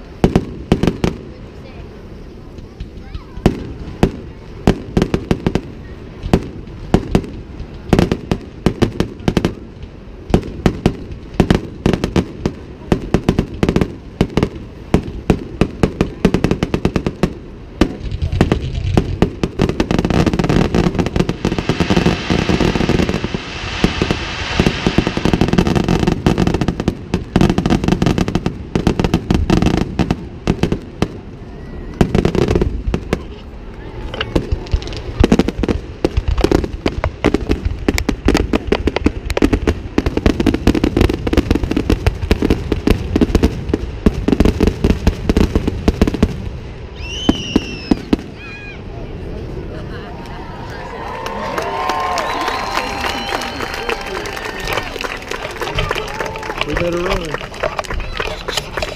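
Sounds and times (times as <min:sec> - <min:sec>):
fireworks bursting and crackling: 0:00.0 - 0:58.9.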